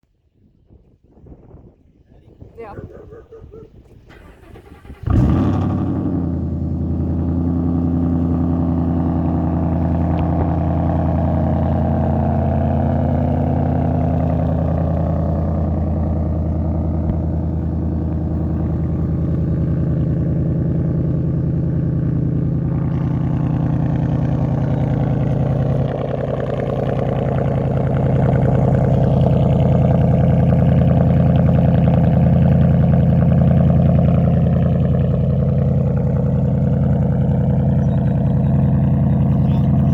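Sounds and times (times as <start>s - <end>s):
truck engine starting and idling: 2.7s - 39.9s.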